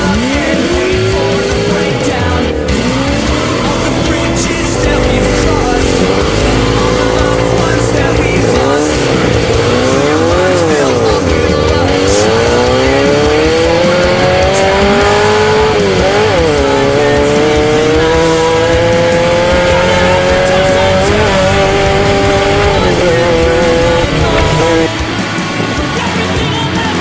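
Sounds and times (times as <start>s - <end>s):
vehicle engine revving hard: 0.0s - 25.4s.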